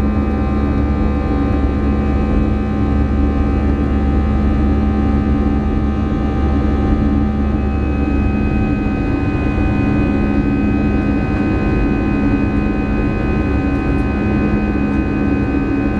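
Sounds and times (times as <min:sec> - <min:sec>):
constant multi-tone whine: 0:00.0 - 0:15.9
jet engine cabin rumble: 0:00.0 - 0:15.9.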